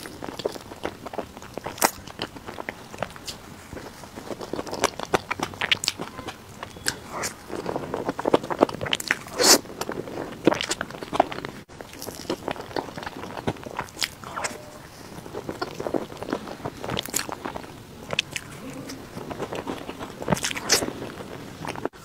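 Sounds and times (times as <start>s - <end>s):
biting and chewing pastry: 0.0s - 22.0s.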